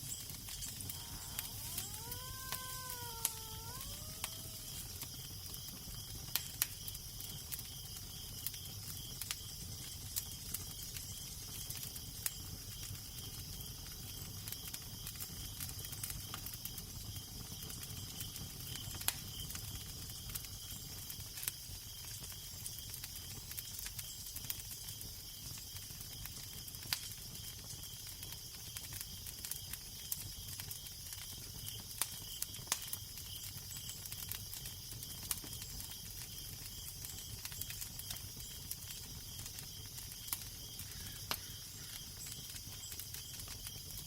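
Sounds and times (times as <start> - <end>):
fire crackling: 0.0 - 44.0.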